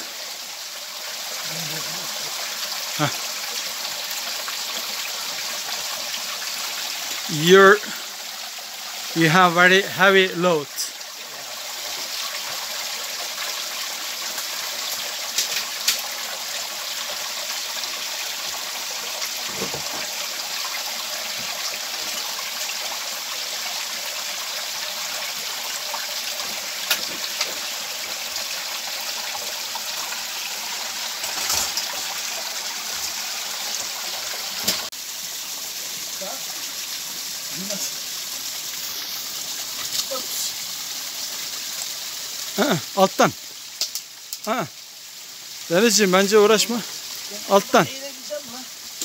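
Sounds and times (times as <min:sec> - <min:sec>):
creek water running over rocks: 0:00.0 - 0:49.0.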